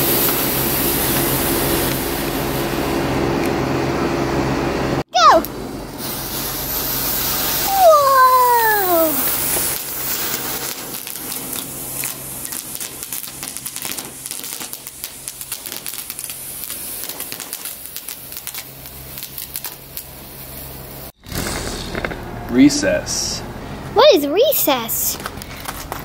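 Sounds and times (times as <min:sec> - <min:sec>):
fireworks hissing and crackling: 0:00.0 - 0:03.6, 0:05.1 - 0:26.0.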